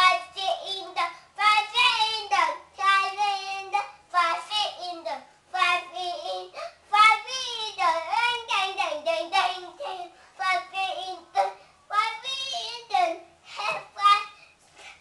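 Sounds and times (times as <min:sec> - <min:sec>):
boy singing: 0:00.0 - 0:14.4.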